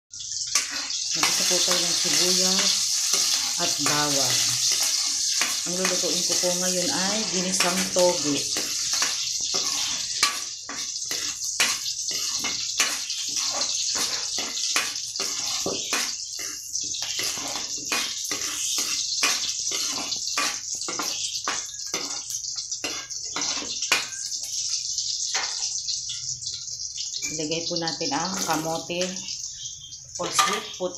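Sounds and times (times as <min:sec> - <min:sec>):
onion and garlic sizzling in oil: 0:00.1 - 0:30.9
metal spatula scraping wok: 0:00.2 - 0:24.7, 0:28.1 - 0:30.9.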